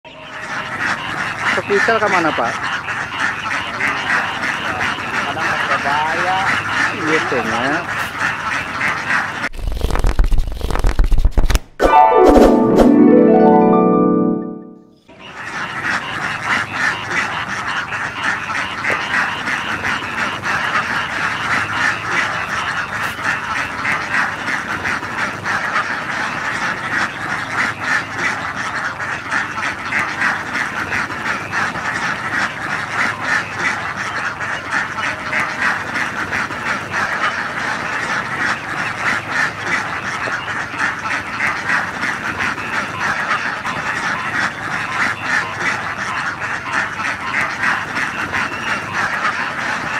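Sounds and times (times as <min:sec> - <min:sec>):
flock of ducks quacking: 0:00.1 - 0:09.5, 0:11.9 - 0:49.9.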